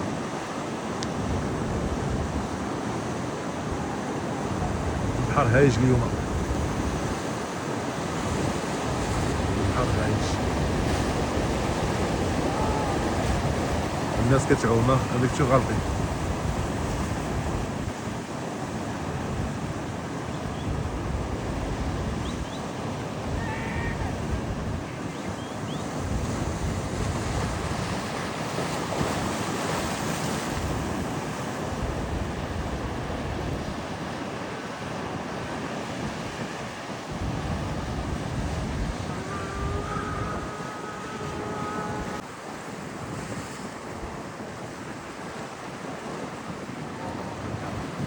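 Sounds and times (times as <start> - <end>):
sea surf breaking on beach: 0.0 - 48.0
wind buffeting microphone: 0.0 - 48.0.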